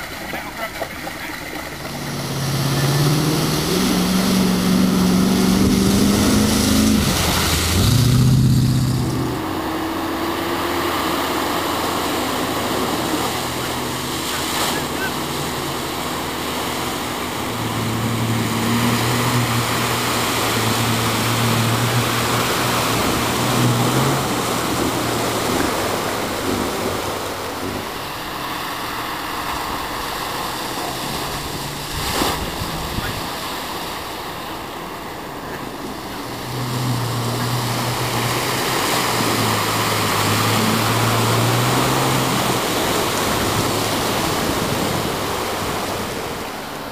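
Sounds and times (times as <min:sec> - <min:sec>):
off-road engine pulling: 0:00.0 - 0:46.9
water splashing against vehicle: 0:00.0 - 0:46.9.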